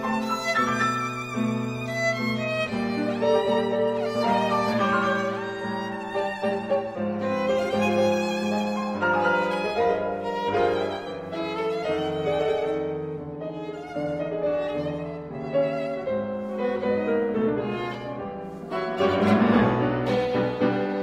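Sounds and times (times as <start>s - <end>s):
violin melody with vibrato: 0.0s - 21.0s.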